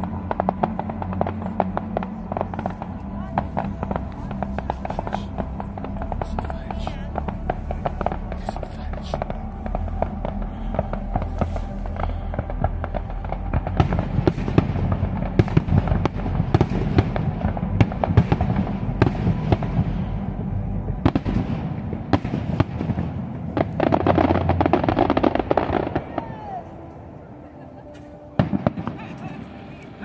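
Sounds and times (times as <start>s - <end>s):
firework crackling: 0.0s - 30.0s
low rumble: 0.0s - 30.0s.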